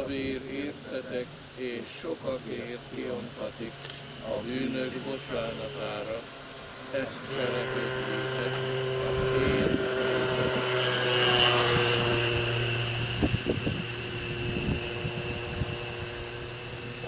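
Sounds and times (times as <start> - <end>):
motor drone with held tones: 0.0 - 17.0.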